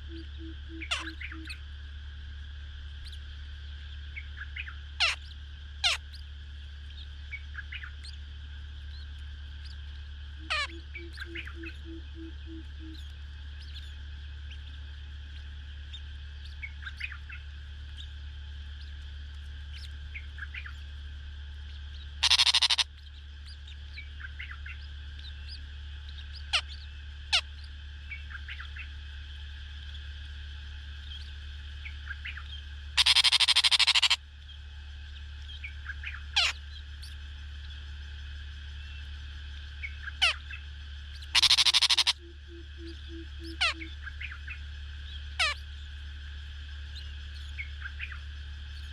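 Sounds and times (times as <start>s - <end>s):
small birds chirping: 0.0s - 48.9s
steady low hum: 0.0s - 48.9s.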